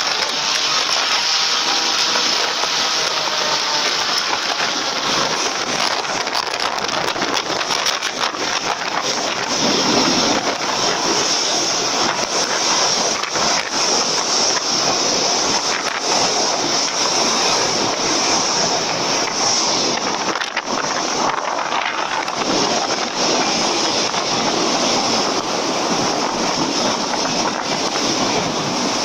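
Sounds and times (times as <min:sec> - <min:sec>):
airboat engine rushing: 0:00.0 - 0:29.0
wind buffeting microphone: 0:00.0 - 0:29.0.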